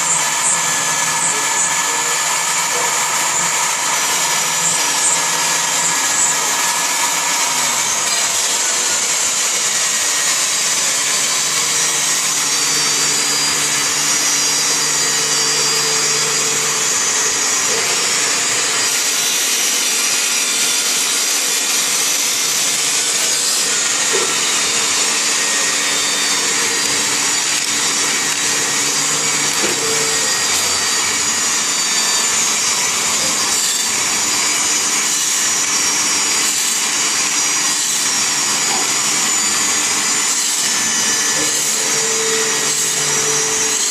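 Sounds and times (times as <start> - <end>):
milling machine whirring: 0.0 - 43.9.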